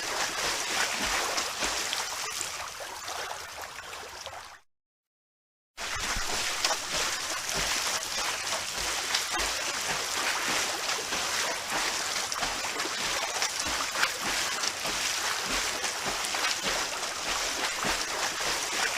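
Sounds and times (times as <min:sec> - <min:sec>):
swimmers splashing in pool: 0:00.0 - 0:04.3, 0:05.8 - 0:18.9.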